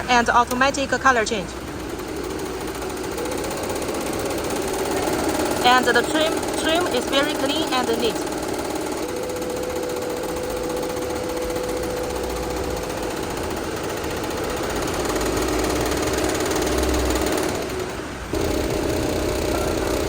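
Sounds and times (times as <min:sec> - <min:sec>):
embroidery machine stitching: 0:00.0 - 0:20.0.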